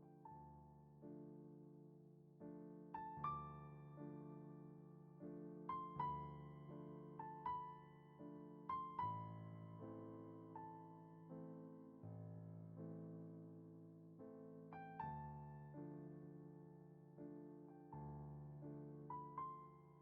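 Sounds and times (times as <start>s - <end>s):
soft slow piano music: 0.0s - 20.0s.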